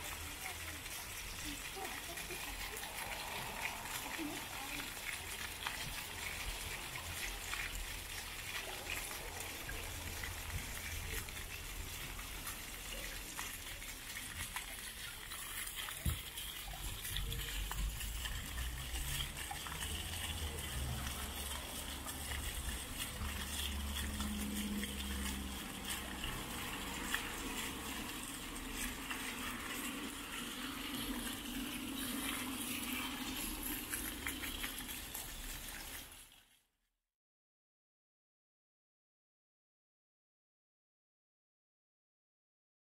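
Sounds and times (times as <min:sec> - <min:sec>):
fountain jets splashing: 0:00.0 - 0:36.5.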